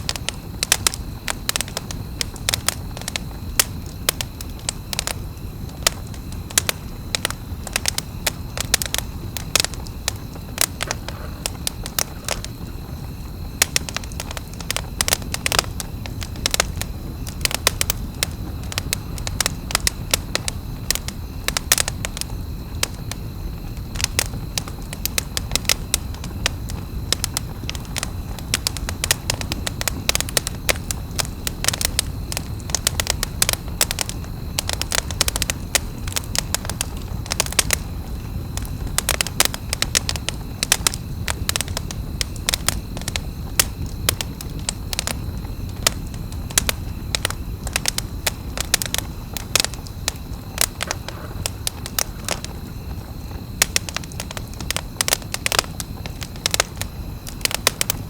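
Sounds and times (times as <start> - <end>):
burning fire background: 0.0 - 58.0
campfire snaps and pops: 0.0 - 58.0.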